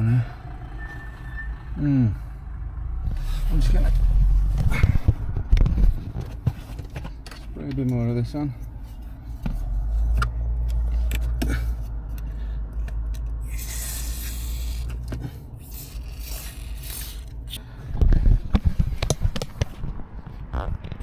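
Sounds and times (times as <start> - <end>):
low rumbling handling noise: 2.6 - 13.6, 14.3 - 21.0.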